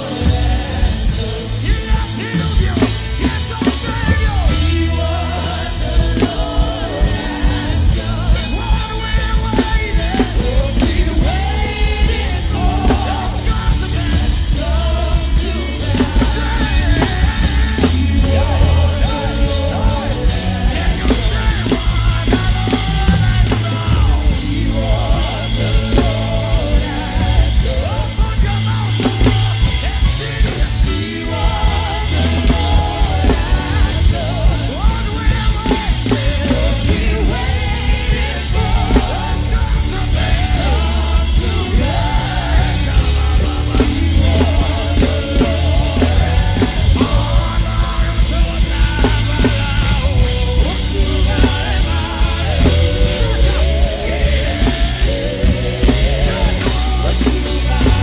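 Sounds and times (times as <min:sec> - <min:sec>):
drum kit played hard: 0:00.0 - 0:58.0
heavy bass: 0:00.0 - 0:58.0
singing voices: 0:00.0 - 0:58.0
worship band playing: 0:00.0 - 0:58.0.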